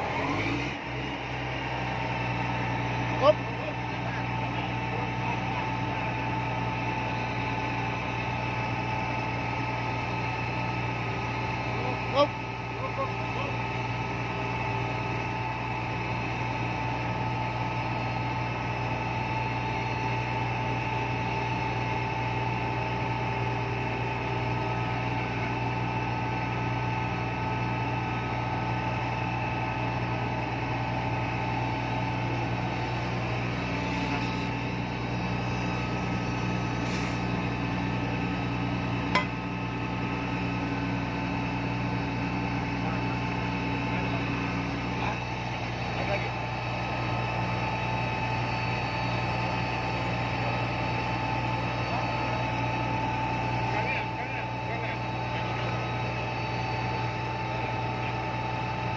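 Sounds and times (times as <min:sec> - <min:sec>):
drill rig engine and hydraulic drone: 0:00.0 - 0:58.9.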